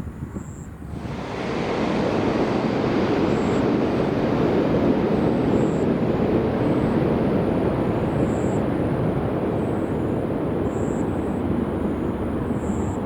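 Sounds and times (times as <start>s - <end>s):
jet airliner engines rumbling: 0.0s - 13.0s.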